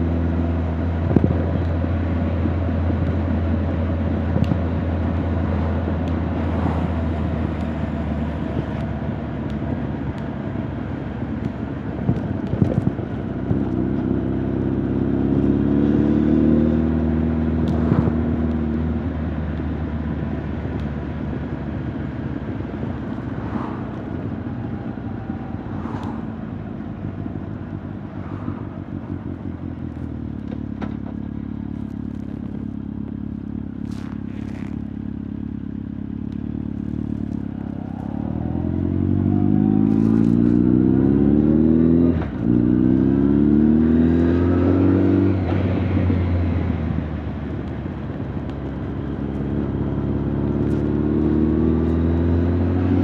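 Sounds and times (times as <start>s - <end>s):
motorcycle engine and exhaust: 0.0s - 53.0s.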